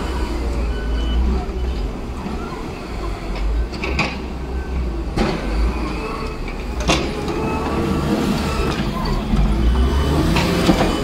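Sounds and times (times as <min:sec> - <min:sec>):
wheel loader engines running: 0:00.0 - 0:11.0.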